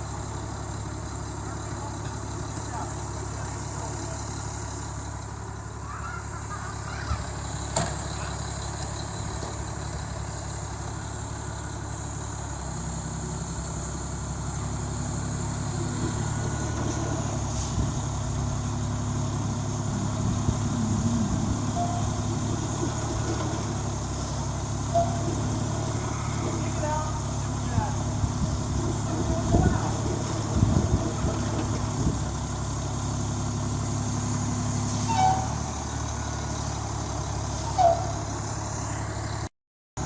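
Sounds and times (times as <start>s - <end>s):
truck engine humming: 0.0s - 39.5s.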